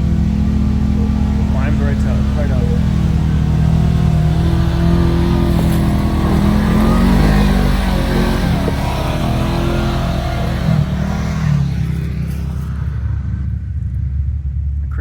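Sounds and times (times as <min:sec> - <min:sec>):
engine revving under load: 0:00.0 - 0:14.3.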